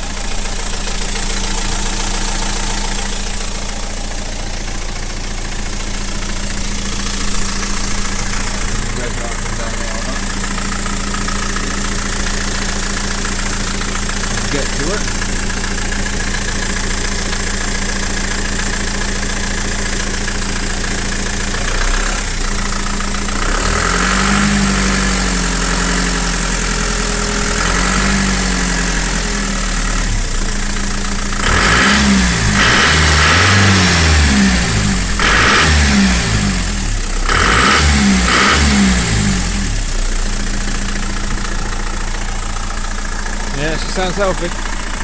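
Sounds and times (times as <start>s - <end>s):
diesel engine idling and revving: 0.0s - 45.0s.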